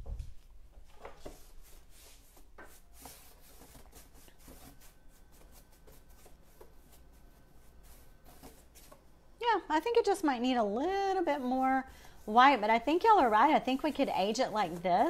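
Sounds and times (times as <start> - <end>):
paintbrush strokes on wood: 1.2 - 9.0, 9.8 - 15.0.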